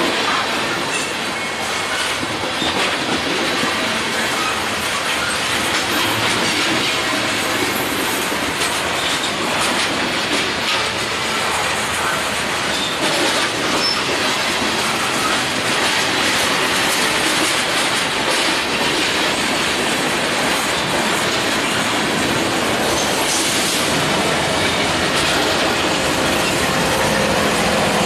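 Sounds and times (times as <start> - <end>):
train wheels rumbling on rail: 0.0 - 28.0
wheels clicking over rail joints: 0.0 - 28.0.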